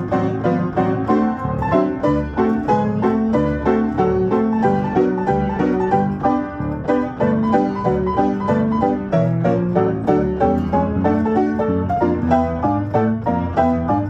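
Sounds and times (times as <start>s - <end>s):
player piano playing chords: 0.0s - 14.0s.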